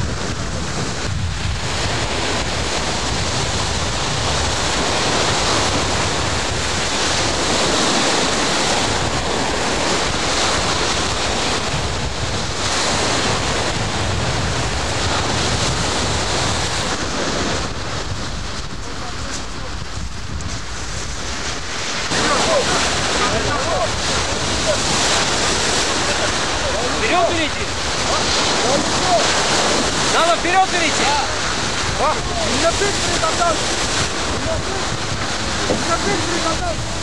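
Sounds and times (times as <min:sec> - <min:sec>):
waves slapping against boat: 0:00.0 - 0:37.0
wind rumbling on microphone: 0:00.0 - 0:37.0.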